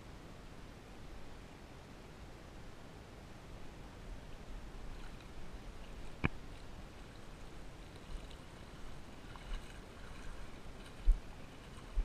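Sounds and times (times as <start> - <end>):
faint water sounds: 0.0 - 12.0.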